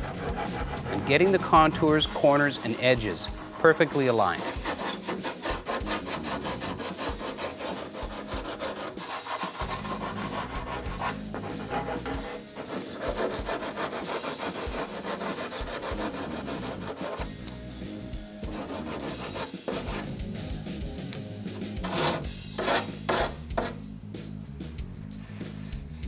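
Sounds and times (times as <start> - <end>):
sanding block rasping: 0.0 - 17.3, 18.4 - 20.1, 21.8 - 23.8.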